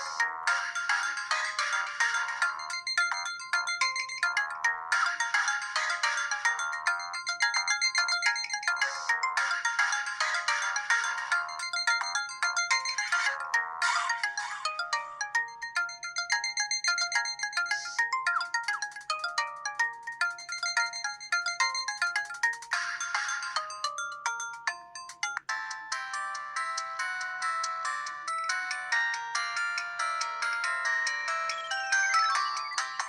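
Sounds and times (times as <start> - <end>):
electronic phone ringtone melody: 0.0 - 33.0.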